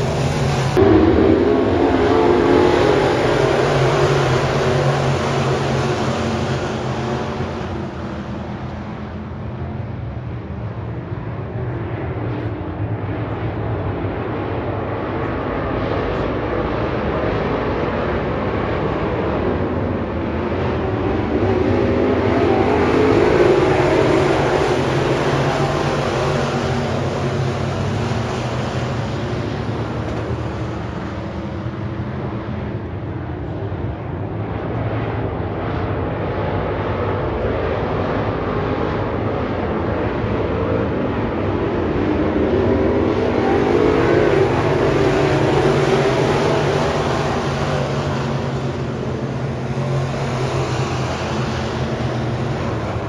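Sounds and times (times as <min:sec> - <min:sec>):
race car engines roaring: 0:00.0 - 0:53.0.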